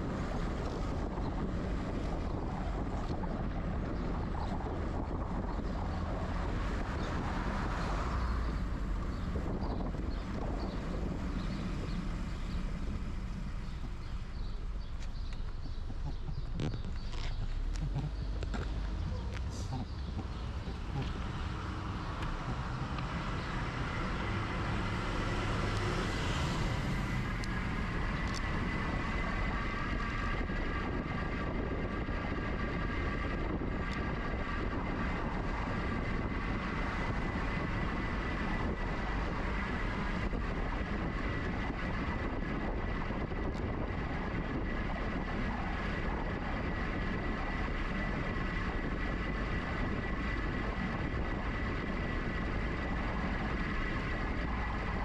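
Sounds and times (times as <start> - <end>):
high whine of electric motor: 0.0 - 55.0
wind rush: 0.0 - 55.0.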